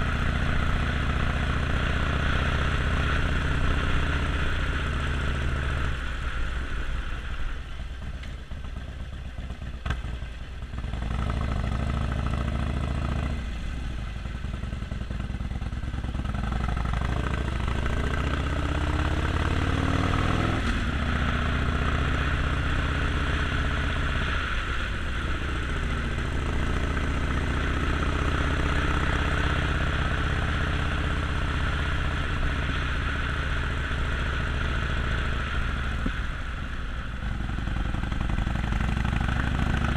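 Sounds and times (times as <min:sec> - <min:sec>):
motorcycle engine revving: 0:00.0 - 0:07.2, 0:08.6 - 0:39.9.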